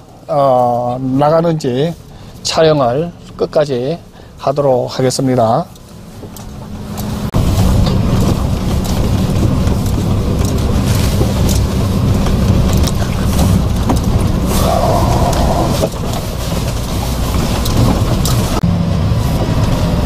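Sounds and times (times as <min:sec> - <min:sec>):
truck engine and road rumble: 0:00.0 - 0:20.0
tyres clicking over gravel: 0:00.5 - 0:18.6.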